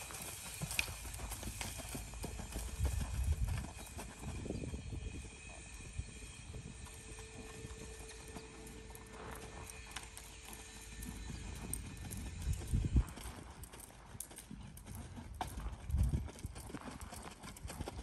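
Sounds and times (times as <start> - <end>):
horse hoofbeats on sand: 0.0 - 18.0.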